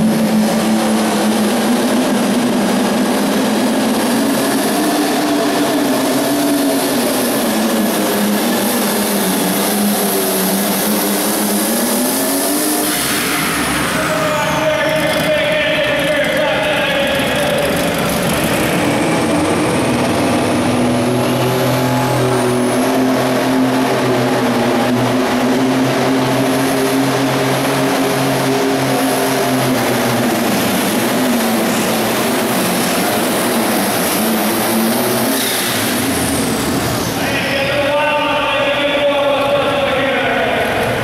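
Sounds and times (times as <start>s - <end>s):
diesel tractor engine at full throttle: 0.0s - 41.0s.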